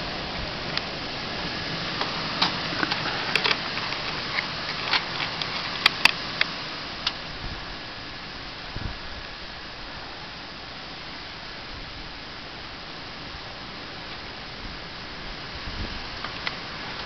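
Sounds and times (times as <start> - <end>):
rushing blizzard wind: 0.0 - 17.0.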